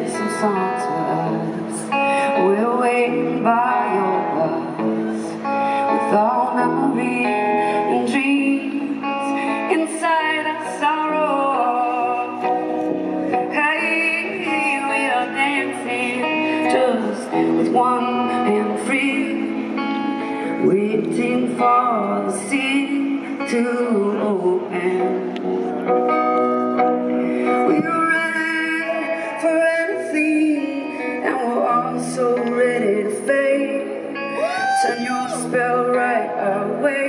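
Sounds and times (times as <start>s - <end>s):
woman singing into microphone: 0.0s - 25.8s, 26.9s - 37.0s
live band with guitar: 0.0s - 37.0s.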